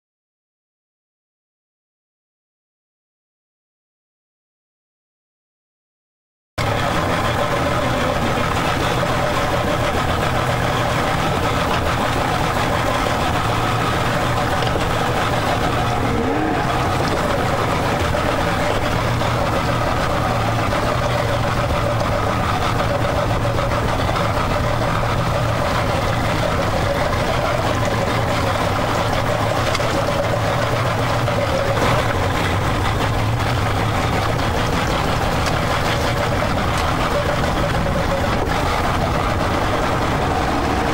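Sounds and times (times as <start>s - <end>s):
outboard engines running: 6.6s - 40.9s.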